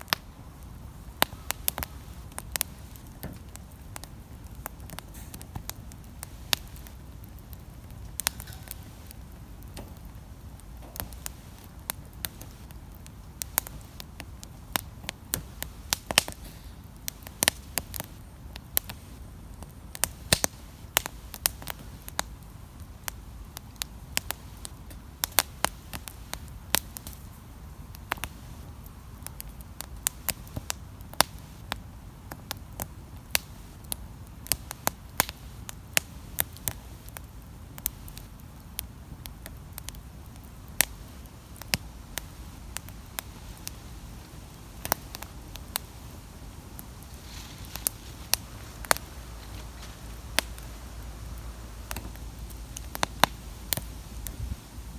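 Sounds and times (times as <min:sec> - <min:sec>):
campfire crackling and popping: 0:00.0 - 0:54.9
low rumble of burning fire: 0:00.0 - 0:54.9.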